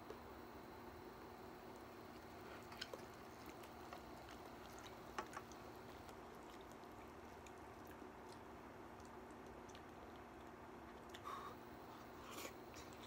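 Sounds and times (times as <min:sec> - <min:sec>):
faint steady hum: 0:00.0 - 0:13.0
eating sounds: 0:01.7 - 0:13.0.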